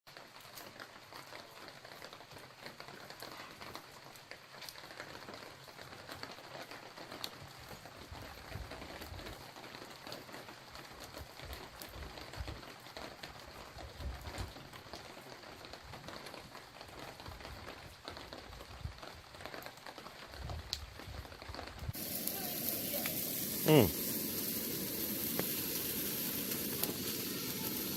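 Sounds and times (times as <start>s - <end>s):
rain pattering: 0.1s - 27.9s.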